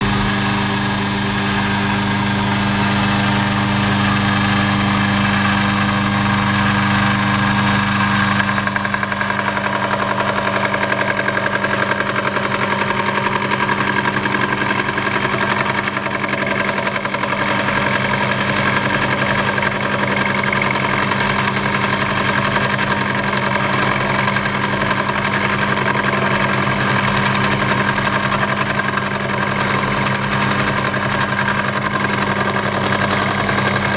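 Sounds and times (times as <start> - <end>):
cutter cutting metal: 0.0 - 33.9
milling machine motor hum: 0.0 - 33.9.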